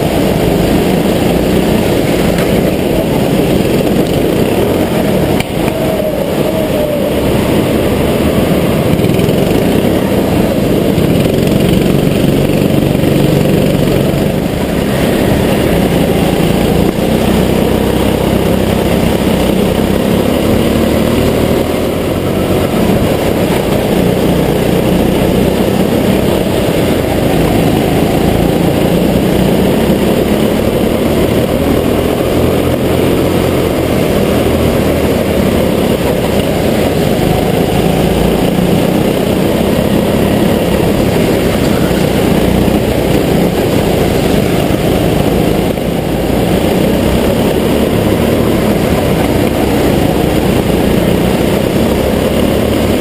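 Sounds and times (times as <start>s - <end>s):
go-kart engine racing: 0.0s - 53.0s
other kart engines nearby: 0.0s - 53.0s.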